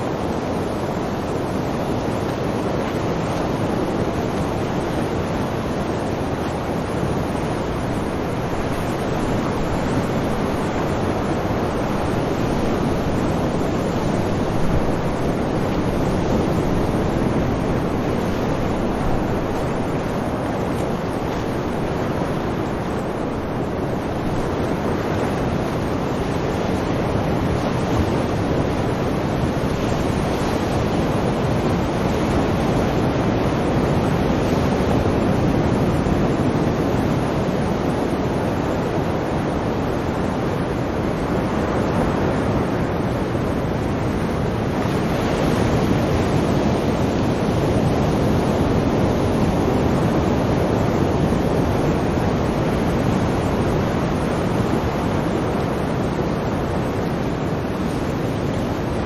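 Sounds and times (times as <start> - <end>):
sea waves washing: 0.0 - 59.0.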